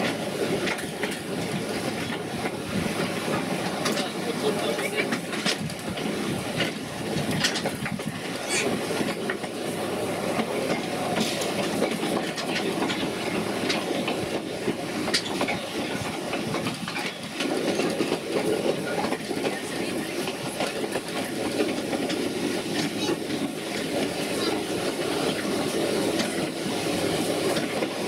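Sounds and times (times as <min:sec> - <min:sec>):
train rumbling on track: 0:00.0 - 0:28.0
wheels and wagons clicking and rattling: 0:00.0 - 0:28.0.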